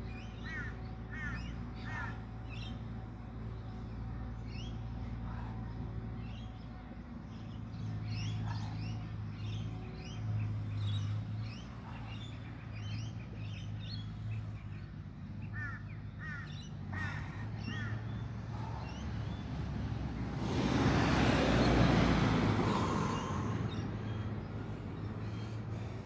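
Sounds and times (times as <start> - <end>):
repeated bird calls: 0.0 - 20.4, 22.6 - 26.0
birds chirping: 0.0 - 26.0
steady low hum: 0.0 - 26.0.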